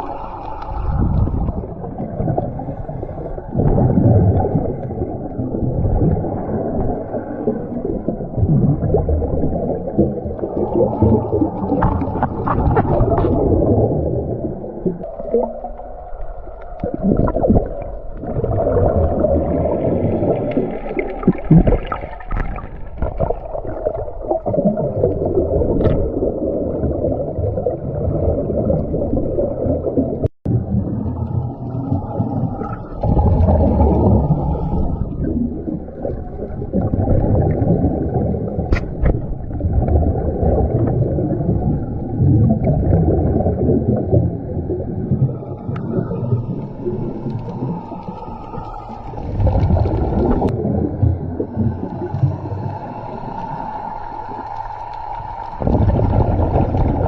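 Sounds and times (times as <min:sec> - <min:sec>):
muffled underwater noise: 0:00.0 - 0:57.0
scuba breathing bubbles: 0:00.0 - 0:57.0.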